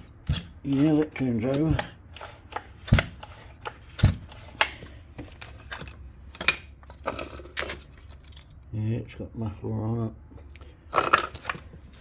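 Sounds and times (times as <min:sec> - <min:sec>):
metal parts clanking: 0:00.0 - 0:08.6, 0:10.9 - 0:12.0.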